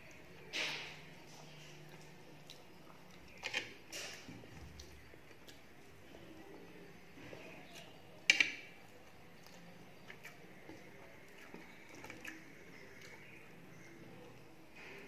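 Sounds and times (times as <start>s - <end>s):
faint wet clicks: 0.0s - 5.7s, 7.6s - 15.0s
chewing food: 0.0s - 15.0s.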